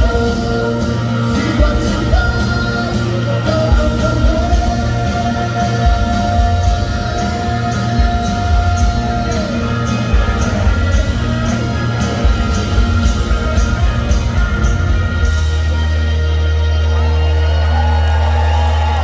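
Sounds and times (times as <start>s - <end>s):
drums striking: 0.0s - 16.4s
live rock band playing: 0.0s - 19.0s.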